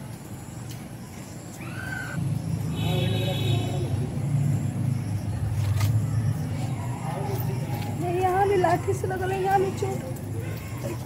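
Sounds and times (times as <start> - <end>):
road vehicle engine rumble: 0.0 - 11.0.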